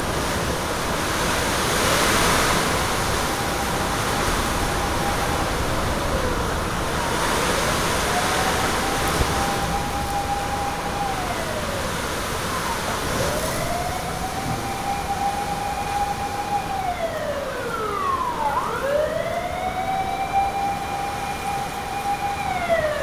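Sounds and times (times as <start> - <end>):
higher siren wail: 0.0 - 23.0
wind and rain rushing: 0.0 - 23.0
siren wailing: 1.6 - 23.0.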